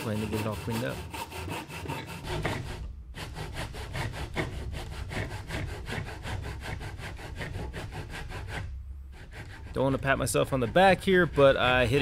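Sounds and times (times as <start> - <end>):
handsaw rasping through wood: 0.0 - 12.0.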